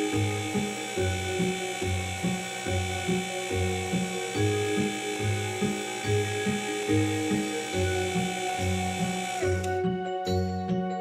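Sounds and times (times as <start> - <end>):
high mechanical whine: 0.0 - 9.8
upbeat cartoon music: 0.0 - 11.0.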